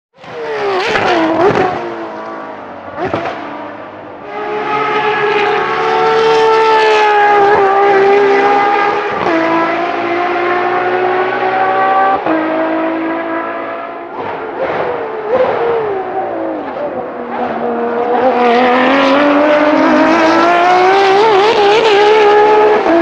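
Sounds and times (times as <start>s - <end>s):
performance car engine revving: 0.2s - 23.0s.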